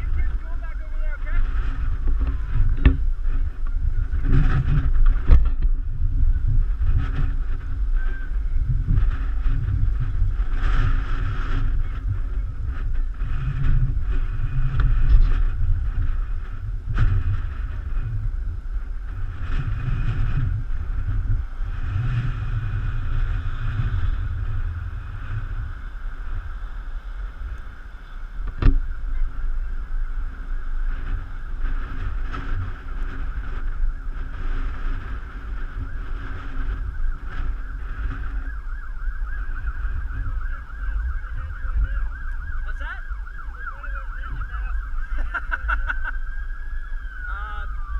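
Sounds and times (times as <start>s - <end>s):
distant siren: 0.0s - 47.9s
gusty wind on microphone: 0.0s - 47.9s.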